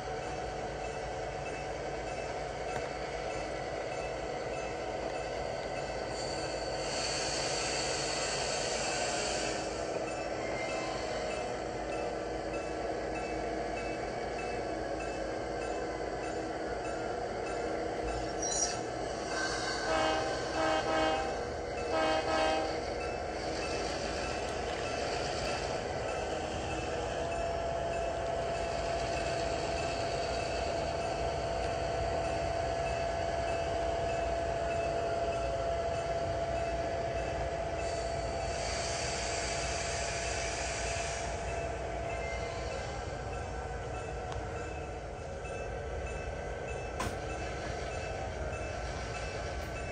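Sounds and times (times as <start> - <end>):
model locomotive bell ringing: 0.0 - 6.6, 9.9 - 19.0, 19.9 - 38.5, 41.2 - 49.9.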